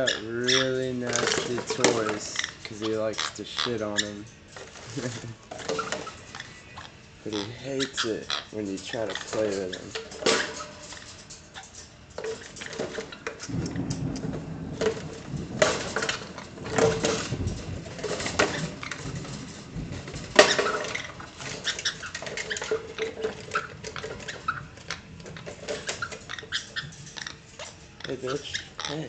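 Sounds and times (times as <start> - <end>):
bird toys clicking and clattering: 0.0 - 29.0.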